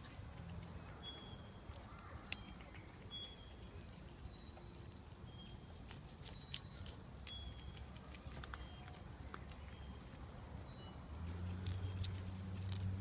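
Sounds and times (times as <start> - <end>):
cat chewing a leaf: 1.7 - 10.3, 11.2 - 13.0.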